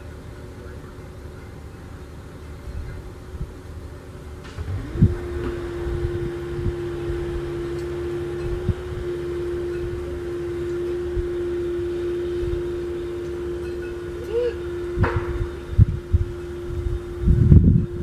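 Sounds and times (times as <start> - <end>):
low uneven rumble: 0.0 - 18.0
steady mechanical hum: 0.0 - 18.0.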